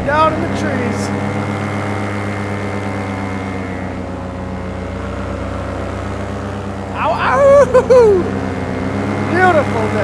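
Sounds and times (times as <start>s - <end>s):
paramotor engine and propeller: 0.0s - 10.0s.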